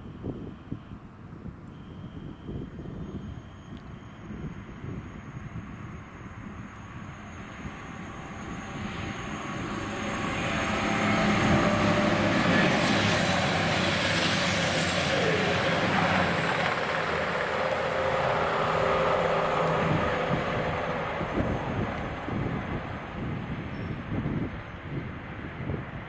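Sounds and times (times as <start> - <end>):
diesel train passing: 3.5 - 26.0.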